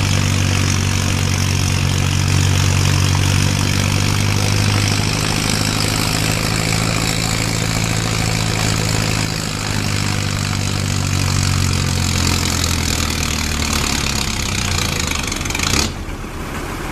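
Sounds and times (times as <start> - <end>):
tractor engine running under load: 0.0 - 16.9.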